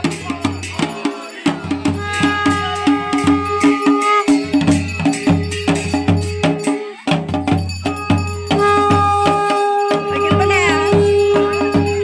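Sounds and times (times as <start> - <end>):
held melody line: 0.0 - 7.1, 7.7 - 12.0
drum beating quick rhythm: 0.0 - 12.0.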